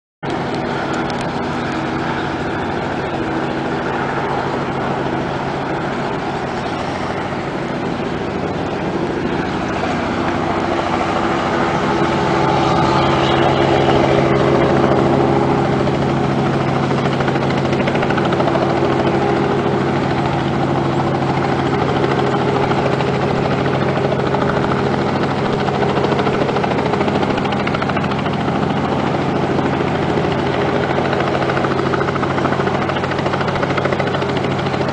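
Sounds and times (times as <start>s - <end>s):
helicopter rotor and engine running: 0.2s - 34.9s.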